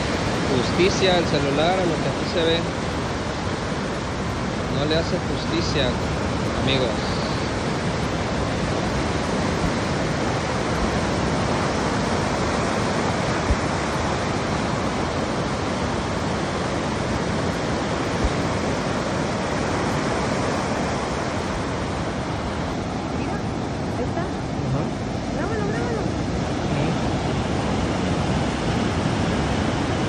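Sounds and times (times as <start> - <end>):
ocean surf breaking: 0.0 - 30.0.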